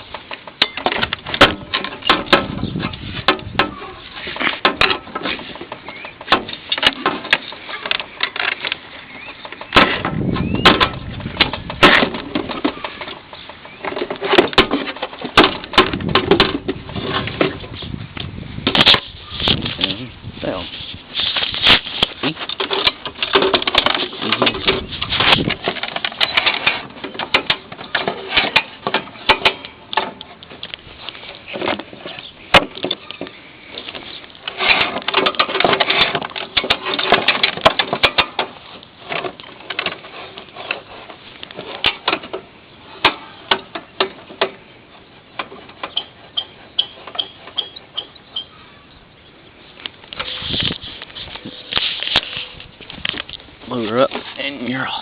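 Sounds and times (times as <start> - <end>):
handling clicks and rattles: 0.0 - 48.5.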